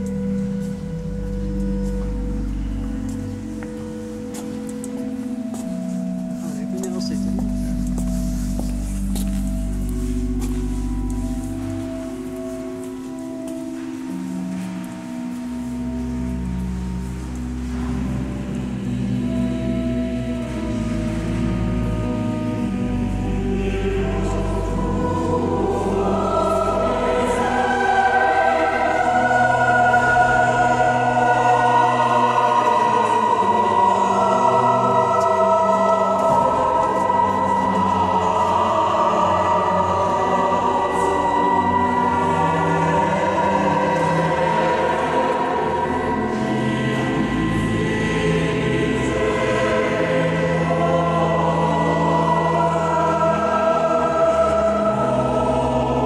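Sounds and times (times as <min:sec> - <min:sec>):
choir singing long chords: 0:00.0 - 0:56.0.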